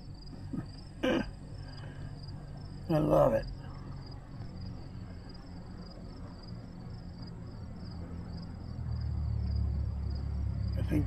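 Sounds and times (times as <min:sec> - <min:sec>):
crickets chirping: 0:00.0 - 0:11.0
low rumble: 0:00.0 - 0:11.0.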